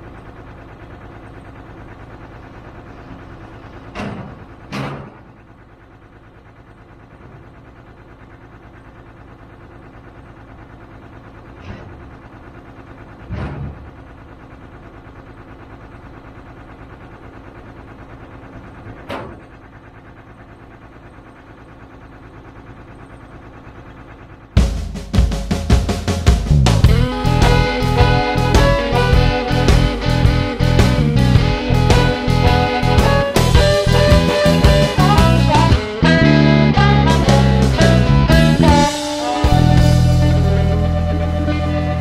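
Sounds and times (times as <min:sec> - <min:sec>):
wheels clunking over metal ramp: 0:00.0 - 0:20.5, 0:22.9 - 0:42.0
truck engine idling hum: 0:00.0 - 0:42.0.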